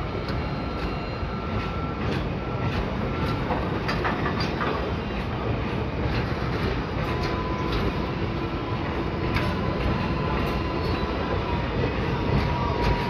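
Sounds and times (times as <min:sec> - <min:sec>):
wheels clacking over rail joints: 0:02.0 - 0:13.0.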